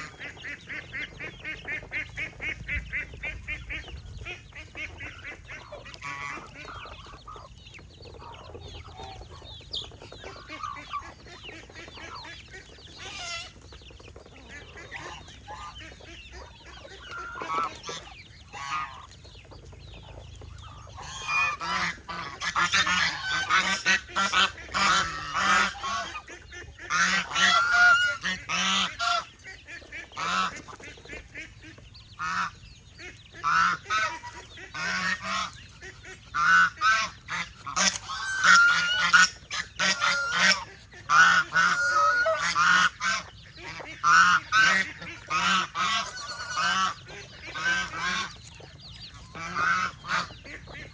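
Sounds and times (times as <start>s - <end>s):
geese honking: 0.0s - 50.9s.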